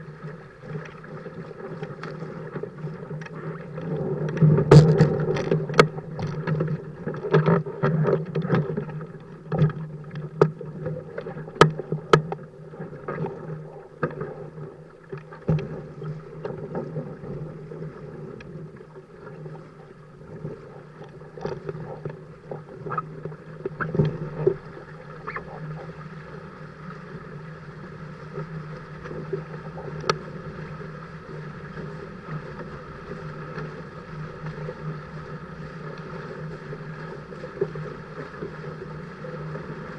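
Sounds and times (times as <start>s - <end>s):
constant low hum: 0.0s - 39.9s
water rushing against hulls: 0.0s - 39.9s.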